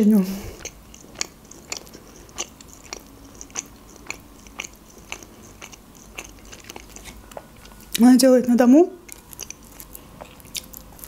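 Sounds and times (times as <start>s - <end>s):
closed-mouth chewing: 0.3s - 8.1s, 9.0s - 11.0s.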